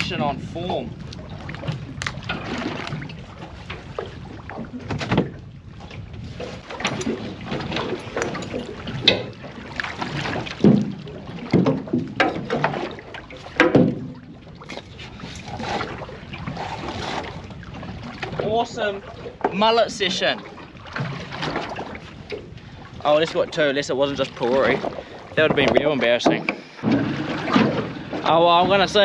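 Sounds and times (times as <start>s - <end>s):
gear knocking and clunking in boat: 0.0s - 29.0s.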